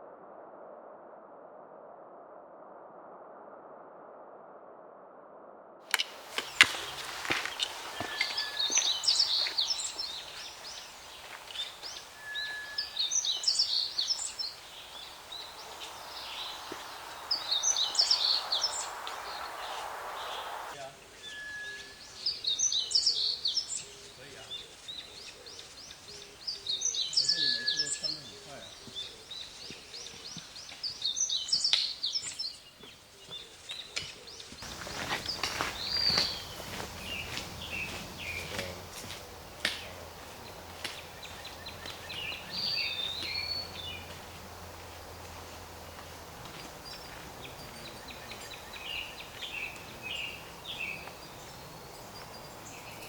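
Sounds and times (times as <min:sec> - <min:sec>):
forest background hiss: 0:05.9 - 0:53.0
songbird chirping: 0:05.9 - 0:53.0.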